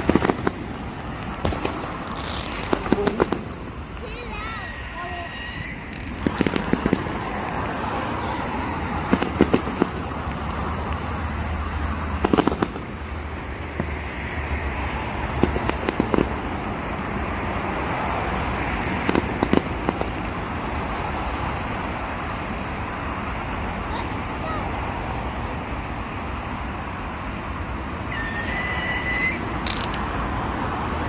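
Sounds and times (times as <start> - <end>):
background rumble: 0.0 - 31.0
firework bangs and crackles: 0.0 - 31.0.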